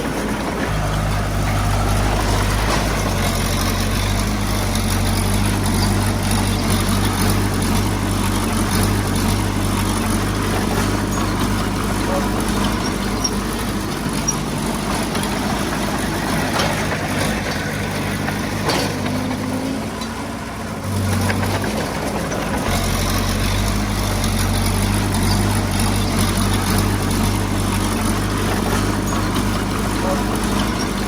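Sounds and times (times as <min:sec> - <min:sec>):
diesel engine of heavy machine: 0:00.0 - 0:31.0.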